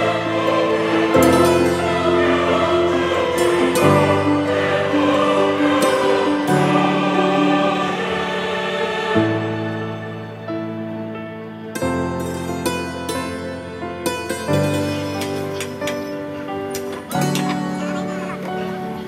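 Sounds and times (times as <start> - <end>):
choir-like voices over held chords: 0.0 - 19.0.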